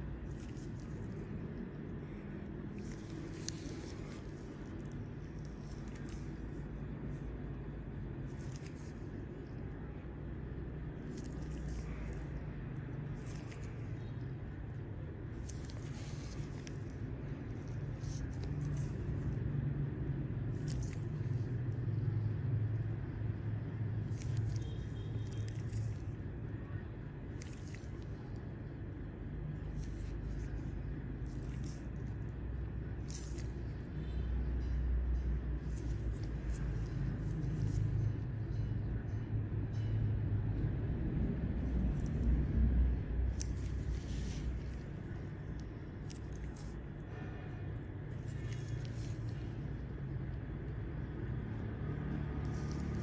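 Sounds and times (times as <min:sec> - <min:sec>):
low background rumble: 0:00.0 - 0:53.0.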